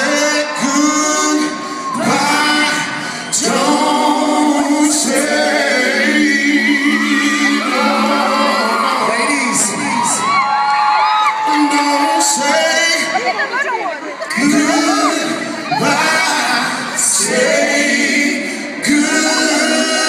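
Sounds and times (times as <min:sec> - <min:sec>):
male vocal group singing harmony: 0:00.0 - 0:10.2, 0:11.5 - 0:13.6, 0:14.2 - 0:20.0.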